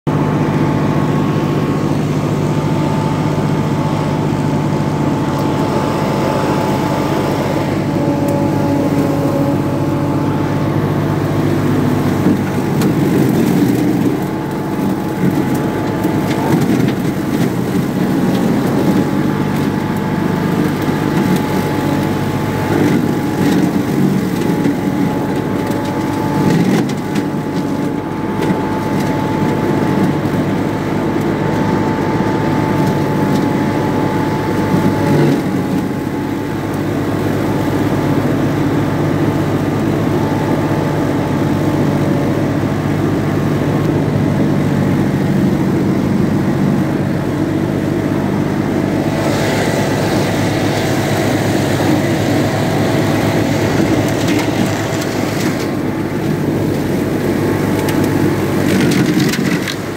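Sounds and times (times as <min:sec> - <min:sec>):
ride-on mower engine running: 0:00.0 - 0:59.9
mower deck cutting dry grass: 0:00.1 - 0:59.9.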